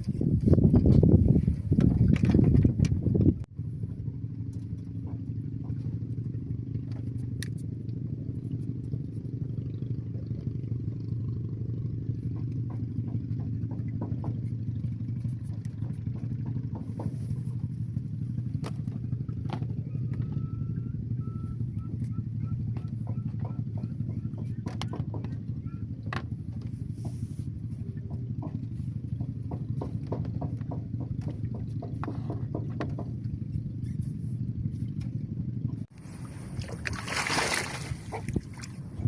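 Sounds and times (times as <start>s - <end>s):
small engine running steadily: 0.0s - 39.0s.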